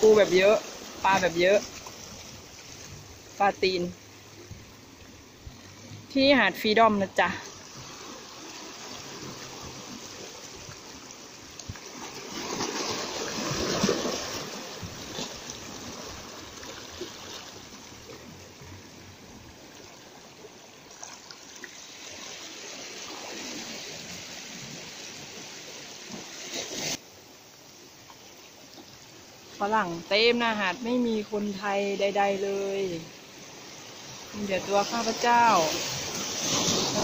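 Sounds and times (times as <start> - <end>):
seawater lapping around rocks: 0.0 - 37.0.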